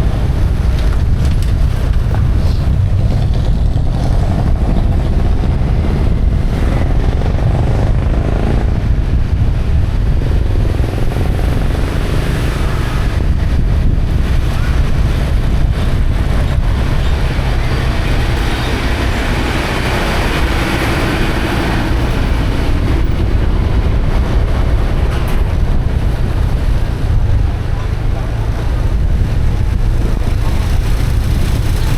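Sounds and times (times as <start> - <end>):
motorcycle running: 0.0 - 31.9
wind noise on microphone: 0.0 - 31.9.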